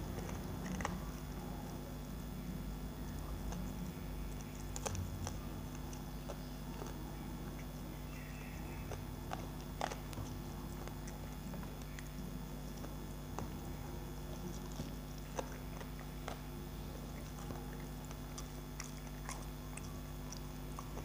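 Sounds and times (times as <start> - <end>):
soft chewing: 0.0 - 21.0
steady low hum: 0.0 - 21.0.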